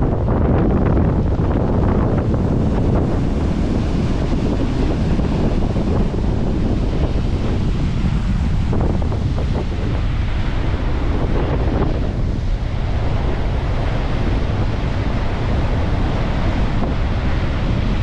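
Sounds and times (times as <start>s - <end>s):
wind buffeting microphone: 0.0s - 18.0s
waves breaking on a beach: 0.3s - 18.0s.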